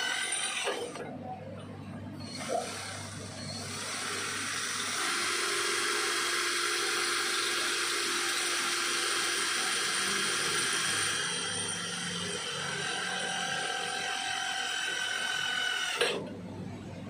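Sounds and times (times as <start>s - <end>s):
cordless drill cutting steel tube: 0.0s - 1.0s, 2.3s - 16.2s.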